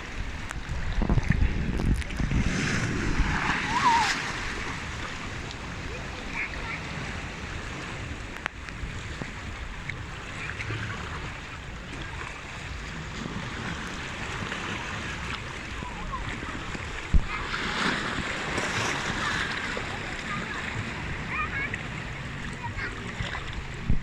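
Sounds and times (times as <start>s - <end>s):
sea waves washing: 0.0s - 24.0s
wind on microphone: 0.0s - 24.0s.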